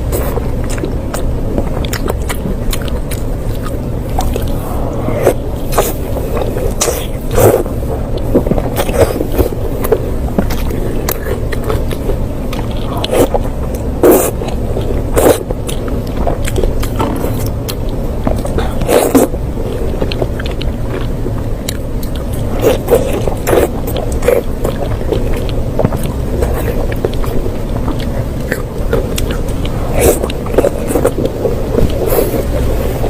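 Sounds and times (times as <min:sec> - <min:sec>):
chewing meat: 0:00.0 - 0:33.0
steady low rumble: 0:00.0 - 0:33.0.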